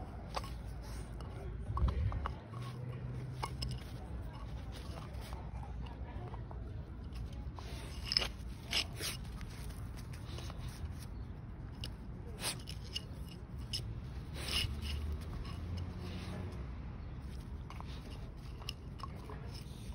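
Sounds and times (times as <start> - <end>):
puppy gnawing on a bone: 0.0 - 19.9.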